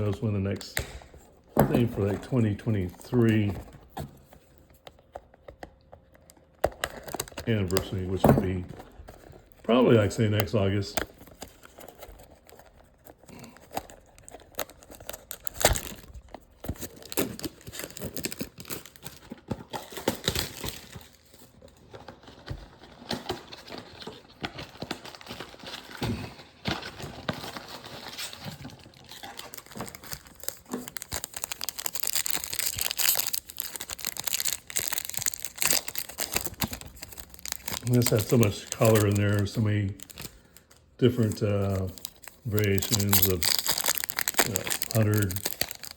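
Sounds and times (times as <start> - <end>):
plastic wrapping crinkling and tearing: 1.7 - 3.5, 6.4 - 45.9.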